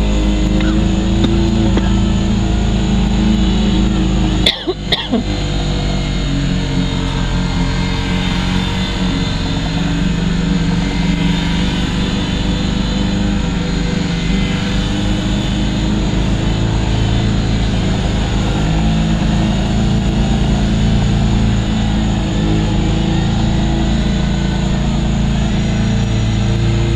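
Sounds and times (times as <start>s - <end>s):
toy helicopter buzzing drone: 0.0s - 26.9s.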